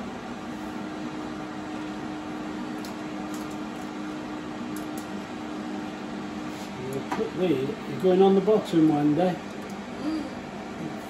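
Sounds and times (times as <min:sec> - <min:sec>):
air fryer fan humming: 0:00.0 - 0:11.0.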